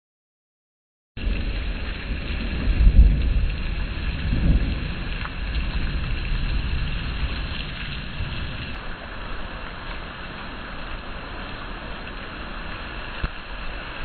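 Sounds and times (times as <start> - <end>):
heavy rain pouring: 1.2 - 14.0
low rumbling wind gusts: 1.2 - 14.0.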